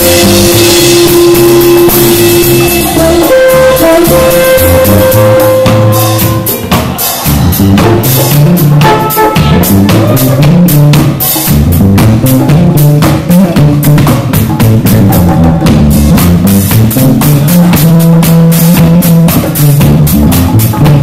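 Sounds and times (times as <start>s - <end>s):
bass line: 0.0s - 21.0s
drum kit: 0.0s - 21.0s
electric guitar: 0.0s - 21.0s
live band playing dub: 0.0s - 21.0s.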